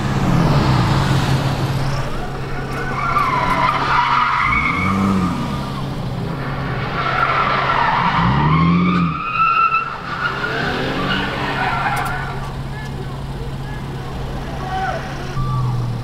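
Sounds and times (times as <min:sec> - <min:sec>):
car engine revving: 0:00.0 - 0:16.0
car tires squealing: 0:01.6 - 0:16.0.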